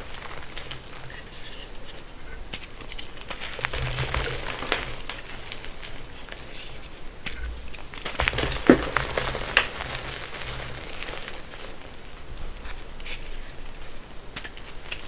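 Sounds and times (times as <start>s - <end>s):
chalk crumbling and crunching: 0.0s - 15.0s.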